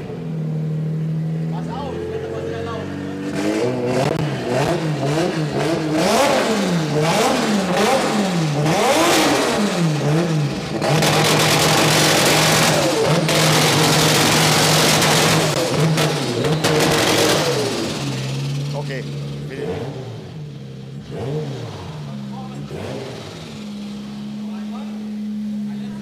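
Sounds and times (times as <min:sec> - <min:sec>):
car engine revving hard: 0:01.5 - 0:26.0.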